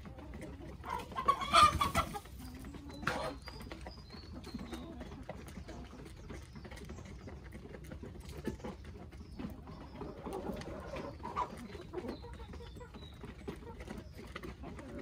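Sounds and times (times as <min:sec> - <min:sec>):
chickens clucking: 0:00.0 - 0:15.0
chicken calling: 0:00.1 - 0:05.9, 0:08.3 - 0:15.0.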